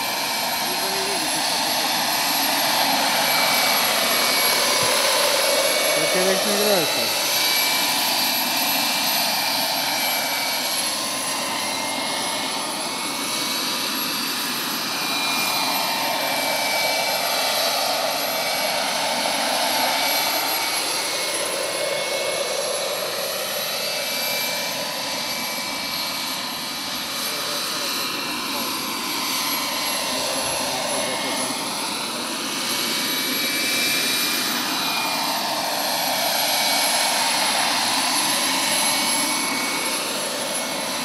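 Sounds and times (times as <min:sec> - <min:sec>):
gas turbine whine: 0:00.0 - 0:41.0
helicopter rotors whirring: 0:00.0 - 0:41.0.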